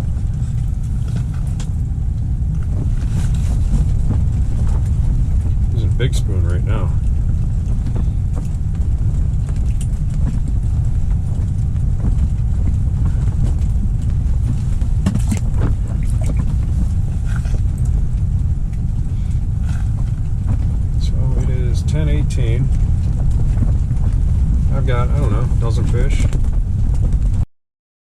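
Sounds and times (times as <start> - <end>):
wind buffeting microphone: 0.0 - 27.4.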